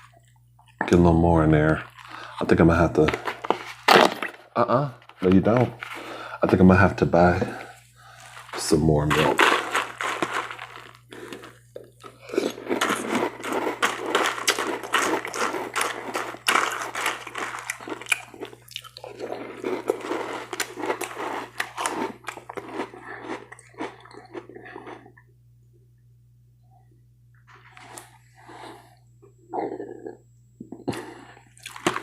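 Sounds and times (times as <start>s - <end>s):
chewing and crunching cereal: 0.0s - 25.3s, 27.5s - 32.0s.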